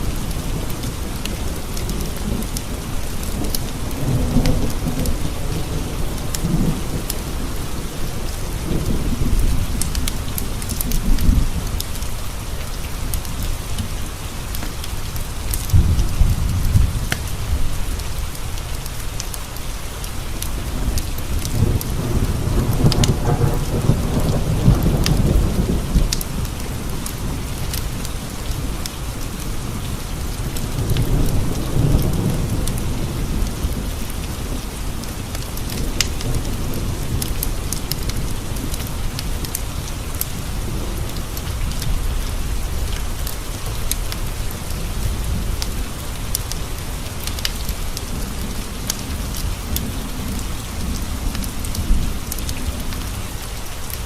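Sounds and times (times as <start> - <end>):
low rolling thunder: 0.0 - 12.4, 14.8 - 18.5, 20.6 - 54.0
steady rain: 0.0 - 54.0.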